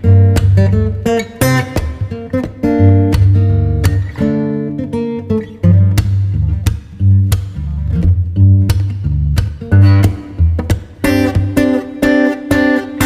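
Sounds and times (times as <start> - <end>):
acoustic guitar music with bass: 0.0 - 13.0.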